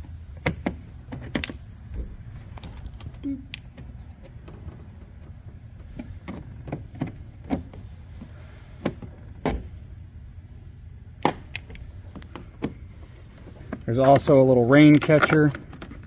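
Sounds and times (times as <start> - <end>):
low background rumble: 0.0 - 14.9.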